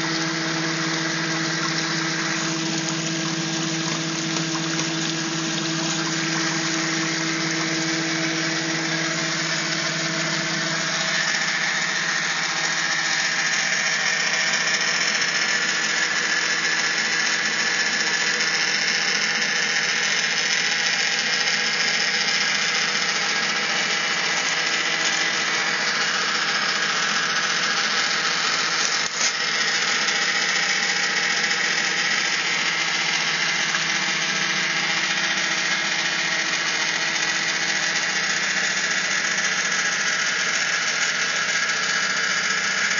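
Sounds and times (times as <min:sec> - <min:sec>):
hiss of moving water: 0:00.0 - 0:42.9
water pump motor hum: 0:00.0 - 0:42.9.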